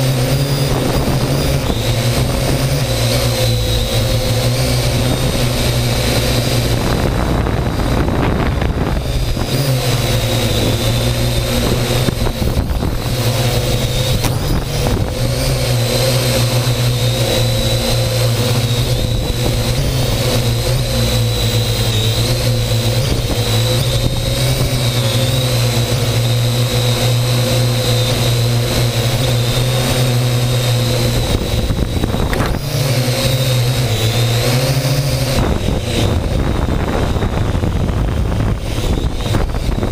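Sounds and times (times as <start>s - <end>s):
drone motors buzzing whine: 0.0s - 39.9s.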